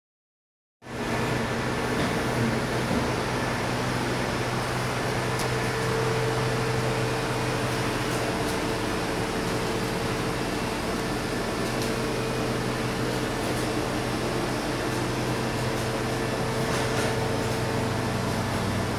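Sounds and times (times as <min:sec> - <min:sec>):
machinery hum: 0:00.9 - 0:18.9.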